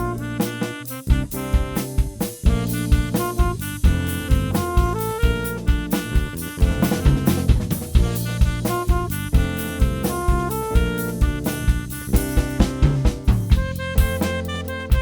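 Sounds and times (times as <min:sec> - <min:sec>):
bass: 0:00.0 - 0:15.0
drum kit steady beat: 0:00.0 - 0:15.0
saxophone melody: 0:00.0 - 0:15.0
guitar: 0:02.2 - 0:15.0.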